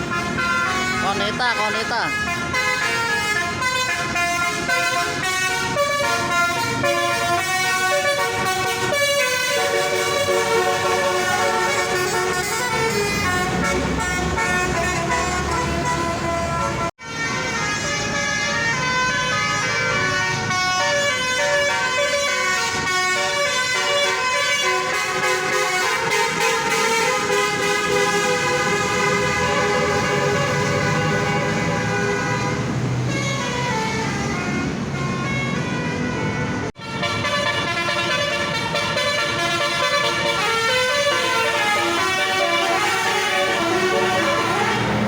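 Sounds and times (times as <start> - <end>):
multi-tone bus horn melody: 0.0 - 45.0.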